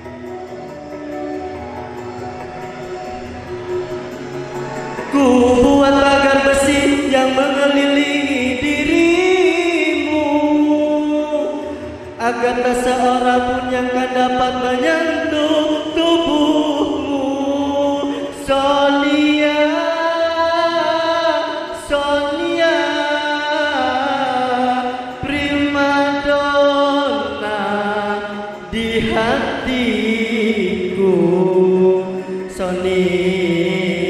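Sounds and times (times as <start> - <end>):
man singing into a microphone: 4.9 - 34.0.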